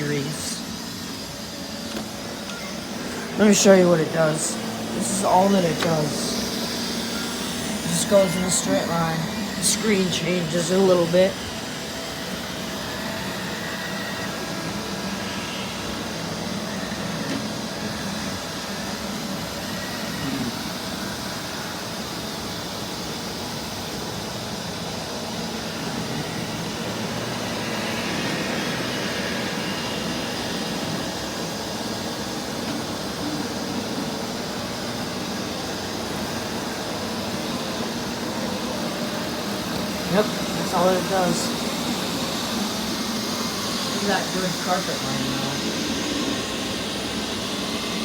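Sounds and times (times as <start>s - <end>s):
robot vacuum running: 0.0s - 48.0s.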